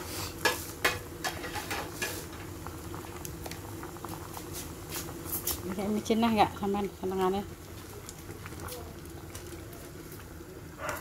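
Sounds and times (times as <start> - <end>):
soup boiling and popping: 0.0 - 11.0.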